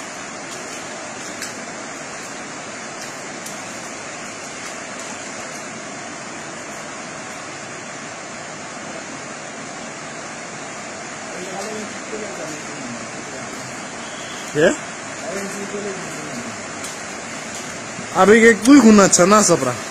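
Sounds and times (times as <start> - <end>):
water rushing: 0.0 - 19.9.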